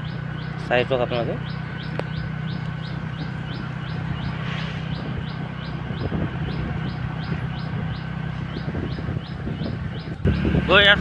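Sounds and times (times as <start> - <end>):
scooter engine running: 0.0 - 11.0
wind and road noise: 0.0 - 11.0.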